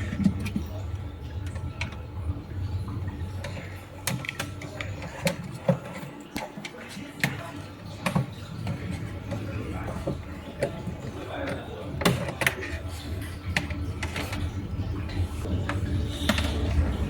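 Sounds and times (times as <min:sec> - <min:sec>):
clicks and knocks on water pump: 0:00.0 - 0:16.8
low steady hum: 0:00.0 - 0:17.0.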